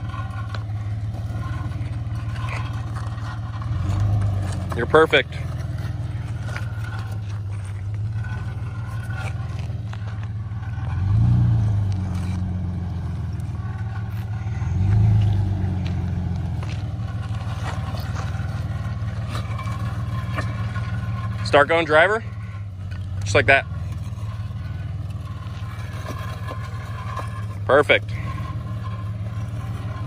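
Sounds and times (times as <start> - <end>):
car engine revving over rocks: 0.0 - 30.0.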